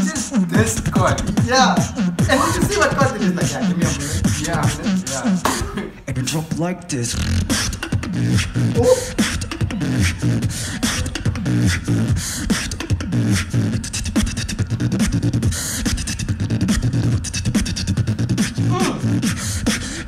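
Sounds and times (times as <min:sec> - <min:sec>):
beatboxing bass tones: 0:00.0 - 0:20.0
beatboxing clicks and hits: 0:00.0 - 0:20.0.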